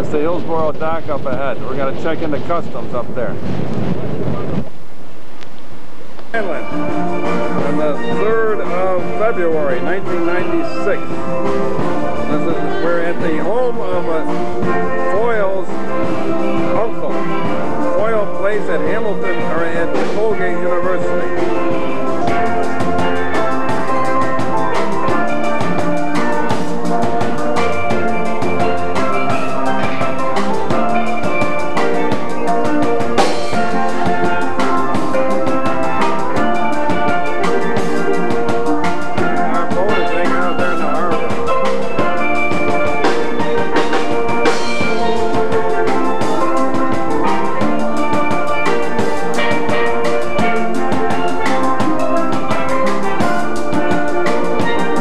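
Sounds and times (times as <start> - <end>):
steel pans playing melody: 0.0 - 3.3, 6.4 - 55.0
drum kit beat: 0.0 - 4.7, 6.2 - 55.0.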